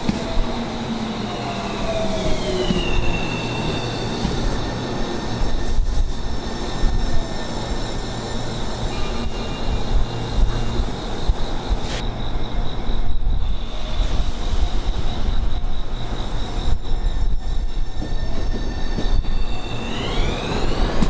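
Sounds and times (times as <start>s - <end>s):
electric train whine: 0.0s - 21.0s.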